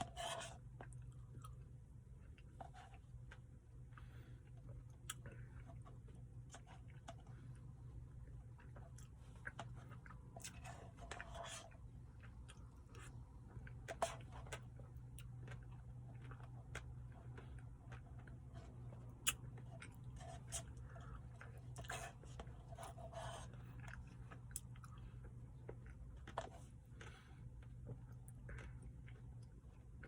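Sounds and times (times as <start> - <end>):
faint chewing: 0.0 - 30.0
steady low hum: 0.0 - 30.0.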